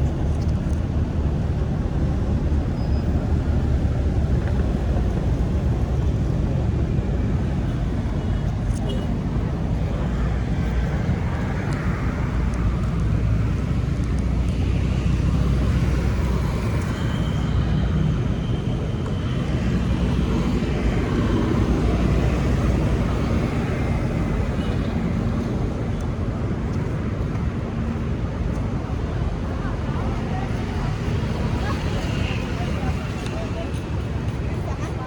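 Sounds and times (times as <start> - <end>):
tyres passing on road: 0.0 - 35.0
vehicle engines running: 0.0 - 35.0.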